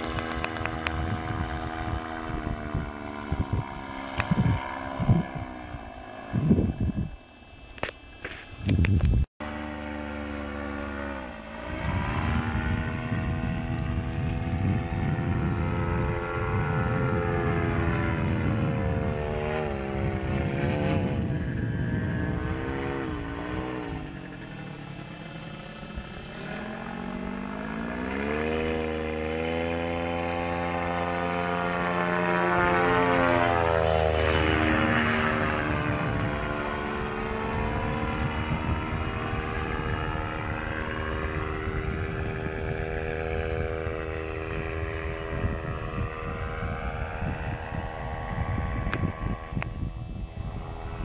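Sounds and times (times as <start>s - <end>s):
paramotor engine and propeller: 0.0s - 51.0s.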